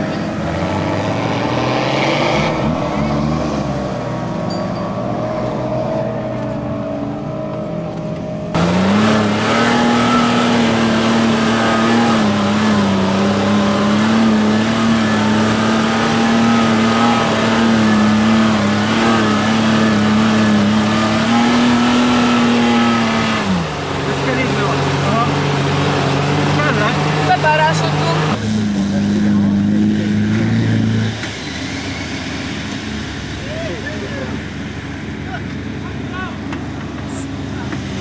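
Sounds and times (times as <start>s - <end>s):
engine running at high revs: 0.0s - 38.0s.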